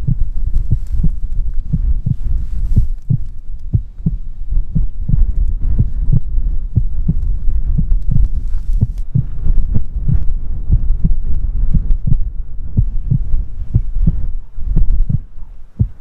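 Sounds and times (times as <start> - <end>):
heartbeat thumps: 0.0 - 16.0
steady low rumble: 0.0 - 16.0.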